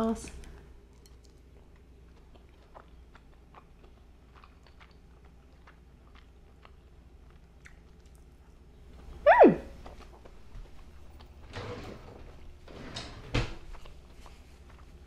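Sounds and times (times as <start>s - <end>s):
faint chewing: 0.2s - 11.5s, 13.6s - 15.0s.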